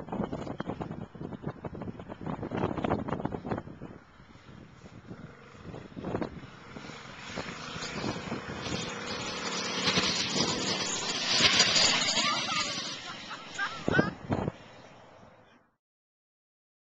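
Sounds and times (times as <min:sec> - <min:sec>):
mini bike engine running: 0:00.2 - 0:14.6.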